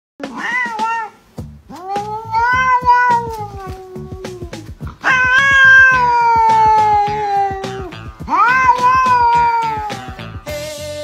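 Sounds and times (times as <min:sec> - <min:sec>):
cat meowing: 0:00.2 - 0:10.3
background music with beat: 0:00.2 - 0:11.0.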